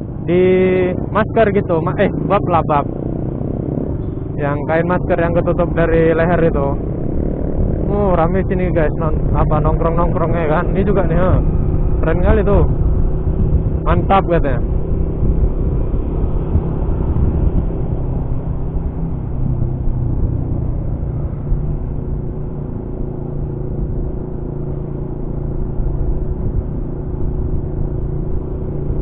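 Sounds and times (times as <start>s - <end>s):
motorcycle engine cruising: 0.0s - 29.0s
wind and road noise: 0.0s - 29.0s.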